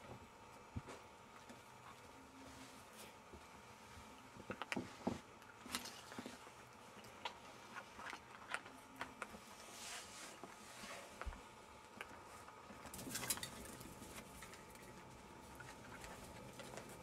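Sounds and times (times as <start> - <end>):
puppy paws pattering: 0.0 - 17.0.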